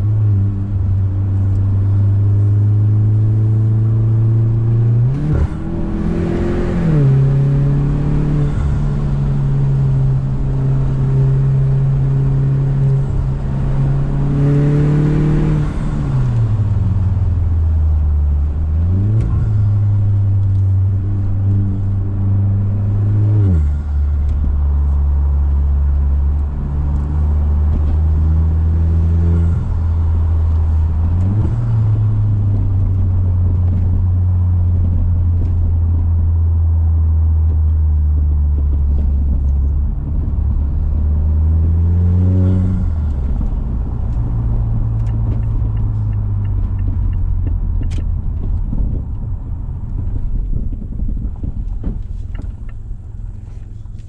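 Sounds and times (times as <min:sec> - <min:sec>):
car engine and exhaust: 0:00.0 - 0:54.0.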